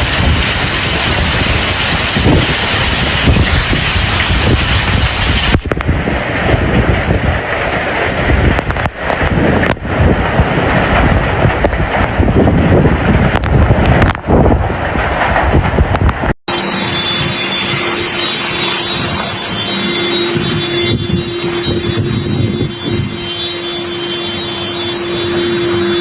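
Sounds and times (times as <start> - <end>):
storm rushing noise: 0.0 - 26.0
wind buffeting microphone: 0.0 - 26.0.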